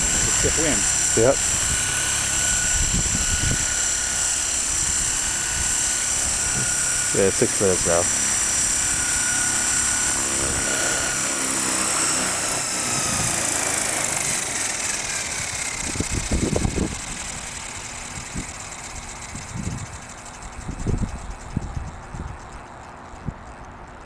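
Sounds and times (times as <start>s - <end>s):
helicopter rotors winding down: 0.0s - 24.0s.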